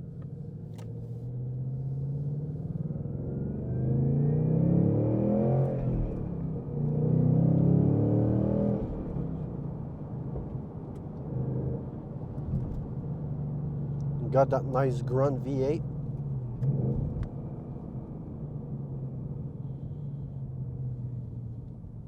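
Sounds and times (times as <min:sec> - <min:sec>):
car engine accelerating: 0:00.4 - 0:22.0.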